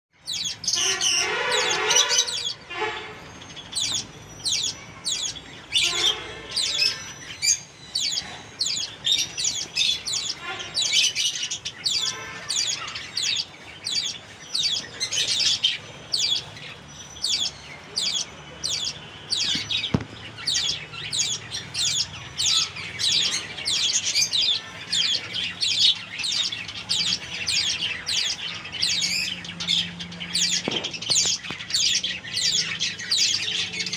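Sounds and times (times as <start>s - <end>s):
sparrows chirping: 0.1s - 33.9s.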